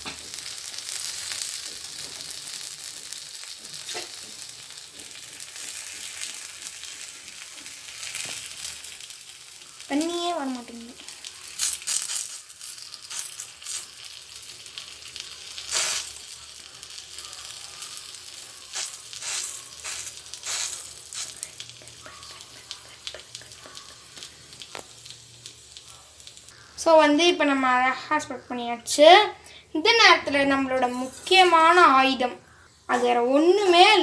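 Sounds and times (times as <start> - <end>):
plantain slices sizzling in oil: 0.0 - 34.0.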